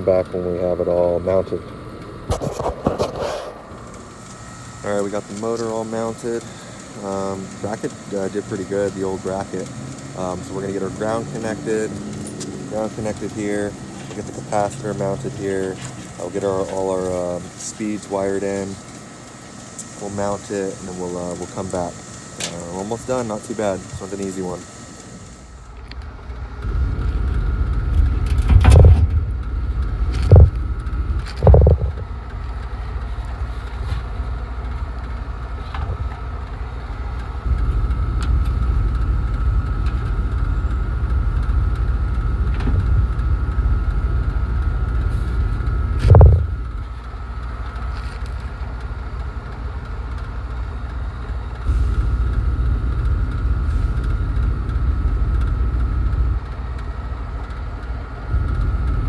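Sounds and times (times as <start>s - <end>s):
machine rumble with whine: 0.0s - 59.0s.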